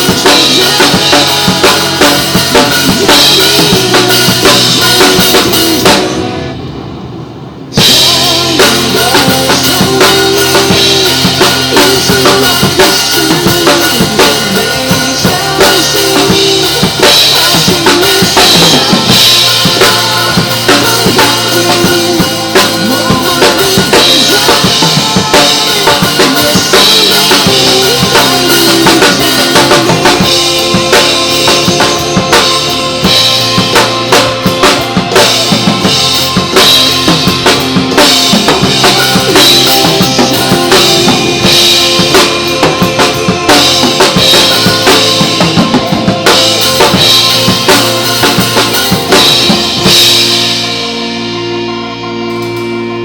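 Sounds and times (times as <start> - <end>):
recorded song accompaniment: 0.0 - 6.6, 7.7 - 53.0
drum kit pop groove: 0.0 - 6.8, 7.7 - 53.0.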